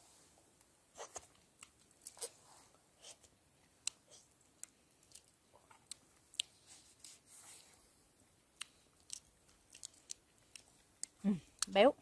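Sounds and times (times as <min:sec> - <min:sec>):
chewing: 0:01.0 - 0:11.8.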